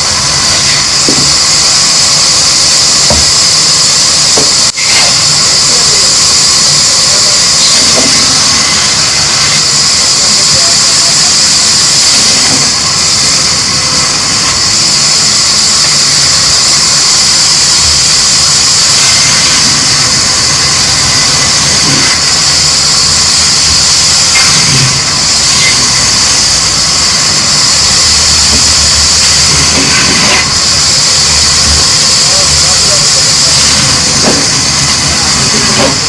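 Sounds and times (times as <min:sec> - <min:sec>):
loud machinery noise with hiss: 0:00.0 - 0:36.0.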